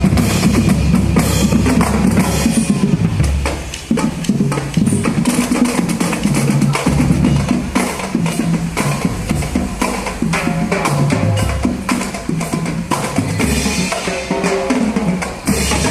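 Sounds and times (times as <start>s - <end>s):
bass drums: 0.0s - 15.9s
snare drums: 0.0s - 15.9s.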